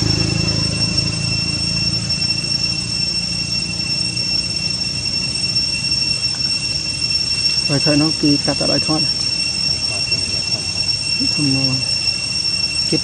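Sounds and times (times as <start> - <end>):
high-pitched insect drone: 0.0 - 13.0
low hum: 0.0 - 13.0.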